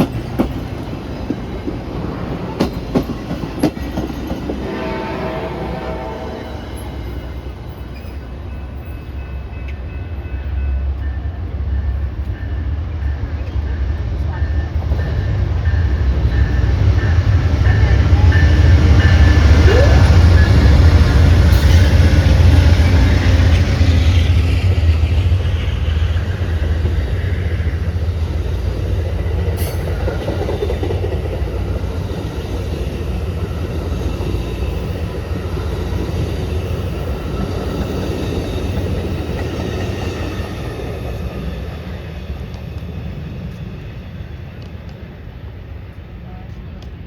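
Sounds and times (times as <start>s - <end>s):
train rumbling past: 0.0s - 47.0s.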